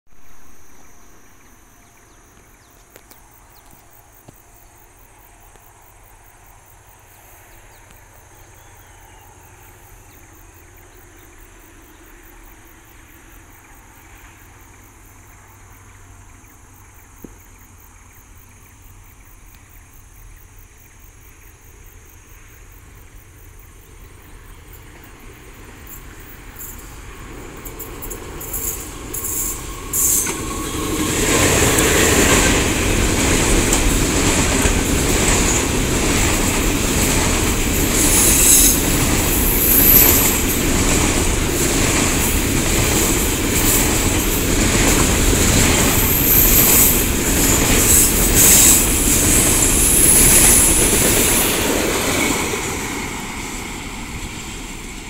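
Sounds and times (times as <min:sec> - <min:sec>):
distant diesel train rumble: 0:00.1 - 0:55.0.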